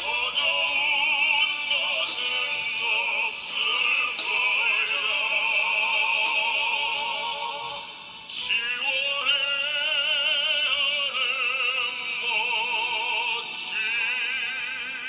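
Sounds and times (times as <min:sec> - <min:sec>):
operatic singing: 0:00.0 - 0:15.0.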